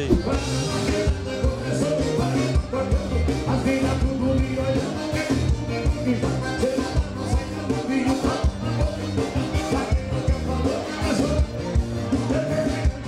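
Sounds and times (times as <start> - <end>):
accordions: 0.0 - 13.0
live band playing: 0.0 - 13.0
man singing: 0.0 - 13.0.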